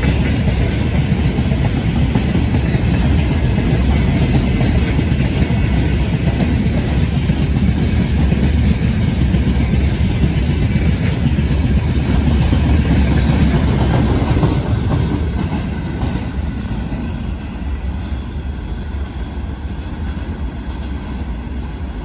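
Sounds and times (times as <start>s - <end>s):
train wheel clicks: 0.0s - 21.0s
freight train rumbling past: 0.0s - 22.0s.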